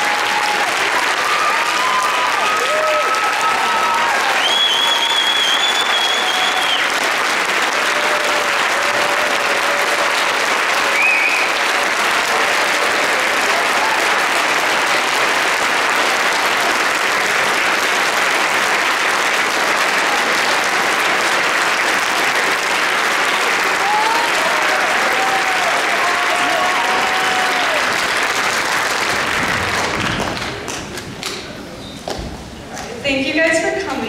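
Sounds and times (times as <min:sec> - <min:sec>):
audience applauding: 0:00.0 - 0:31.5.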